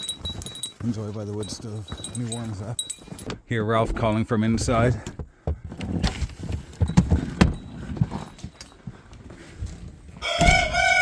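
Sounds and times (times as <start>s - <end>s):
irregular knocks and soft thuds: 0.0s - 10.7s.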